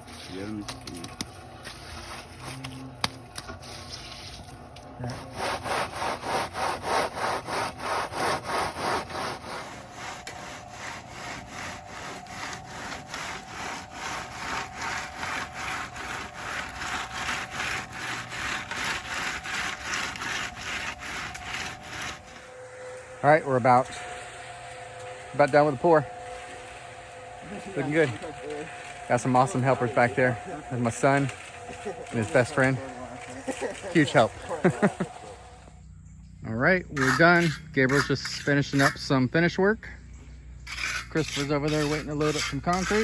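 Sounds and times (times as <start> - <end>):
tool scraping wet concrete: 0.0 - 22.5, 23.2 - 24.1, 25.3 - 35.5, 36.9 - 39.3, 40.7 - 43.0
steady hum: 0.0 - 43.0.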